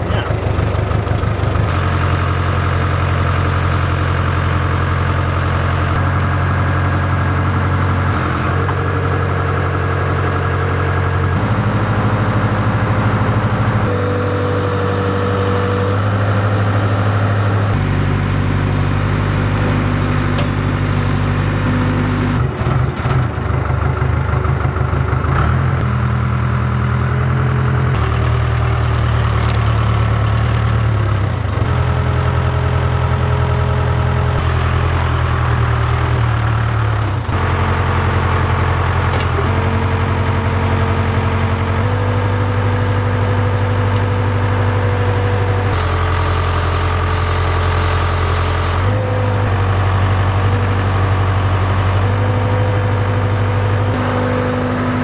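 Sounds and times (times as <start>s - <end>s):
backhoe diesel engine under load: 0.0s - 55.0s.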